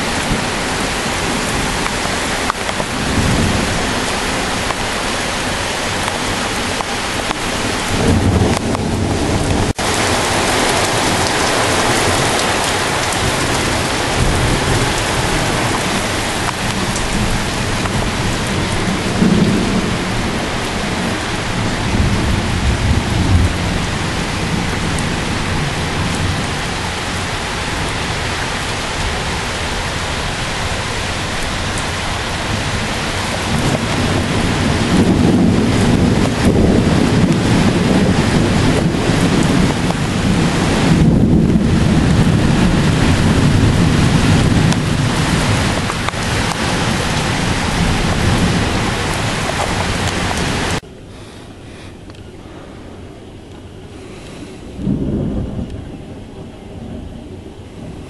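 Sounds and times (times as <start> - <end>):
thunder rumbling: 0.0 - 51.0, 52.0 - 58.0
heavy rain hissing: 0.0 - 58.0.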